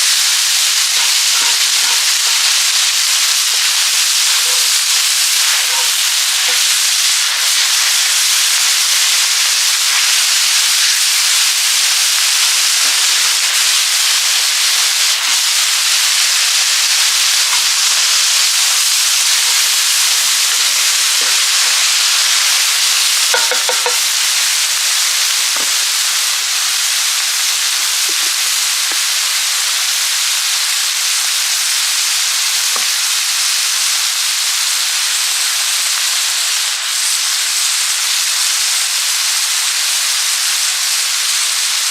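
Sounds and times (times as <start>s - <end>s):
chicken hearts sizzling in a pan: 0.0s - 41.9s.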